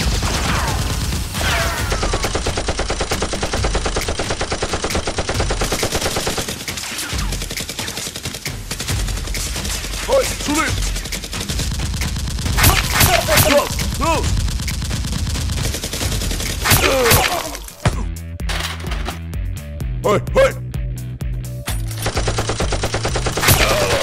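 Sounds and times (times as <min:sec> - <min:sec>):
automatic gunfire: 0:00.0 - 0:17.4, 0:22.0 - 0:24.0.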